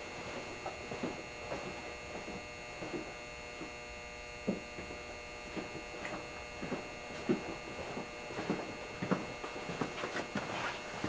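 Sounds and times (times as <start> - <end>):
furnace mains hum: 0.0 - 11.0.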